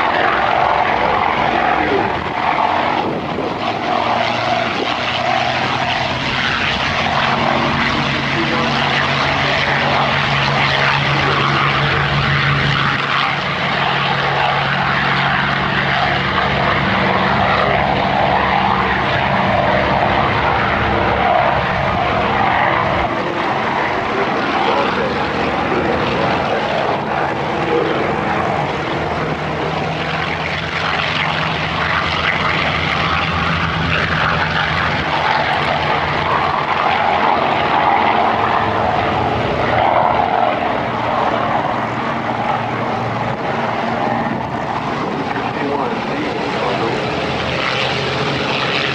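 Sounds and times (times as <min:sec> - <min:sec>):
propeller aircraft engines droning: 0:00.0 - 0:48.9.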